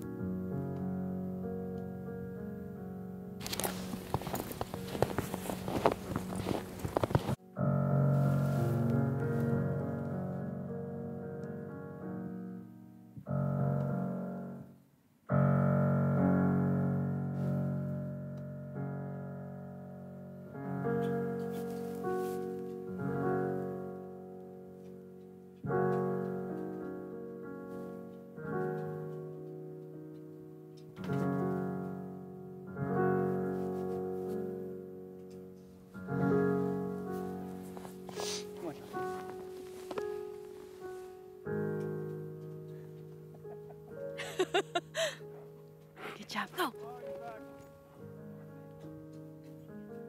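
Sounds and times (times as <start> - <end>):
piano chords: 0.0 - 50.0.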